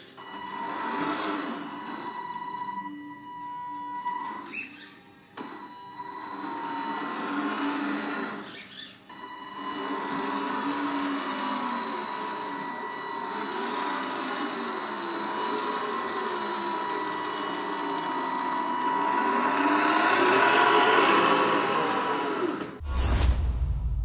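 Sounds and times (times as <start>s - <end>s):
toy truck electric motor whining: 0.0s - 3.0s, 3.6s - 22.8s.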